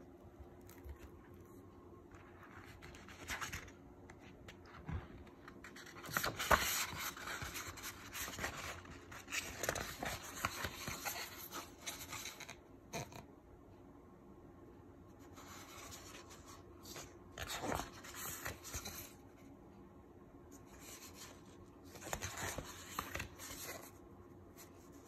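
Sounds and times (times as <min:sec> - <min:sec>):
book pages rustling: 0:00.5 - 0:13.2, 0:15.2 - 0:19.3, 0:20.5 - 0:25.0.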